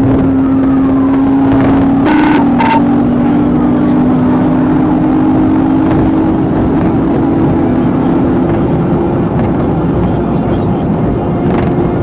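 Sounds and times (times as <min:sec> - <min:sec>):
car engine at high speed: 0:00.0 - 0:12.0
road and wind noise: 0:00.0 - 0:12.0.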